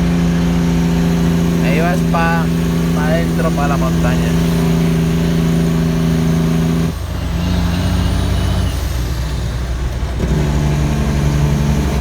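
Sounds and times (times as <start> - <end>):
truck diesel engine braking: 0.0 - 12.0.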